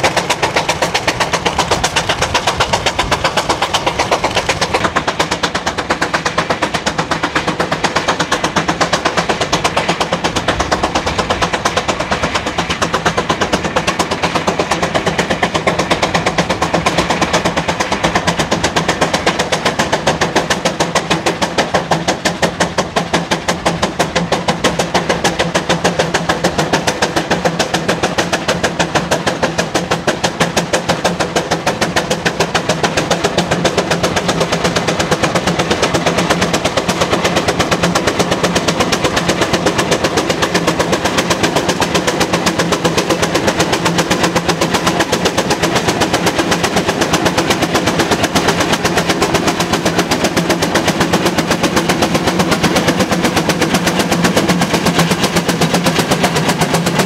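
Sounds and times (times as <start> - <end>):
engine exhaust beats: 0.0 - 57.0.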